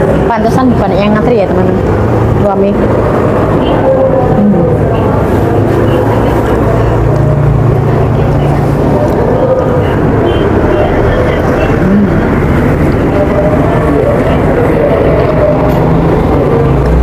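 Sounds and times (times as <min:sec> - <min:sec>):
faint indistinct voices: 0:00.0 - 0:17.0
loud low rumble: 0:00.0 - 0:17.0.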